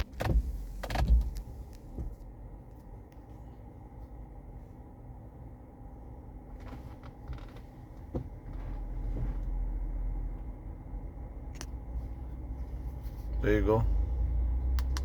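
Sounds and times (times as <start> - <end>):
car cabin hum: 0.0 - 15.0.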